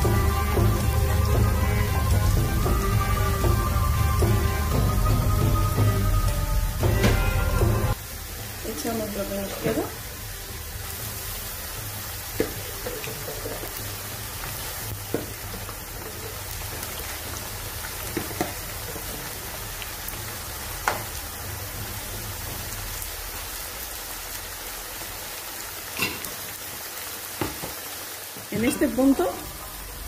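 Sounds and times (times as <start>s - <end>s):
slices sizzling in hot oil: 0.0s - 30.0s.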